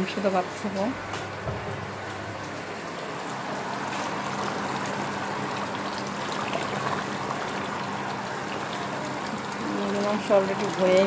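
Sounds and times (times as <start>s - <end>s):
pot simmering: 0.0s - 11.0s.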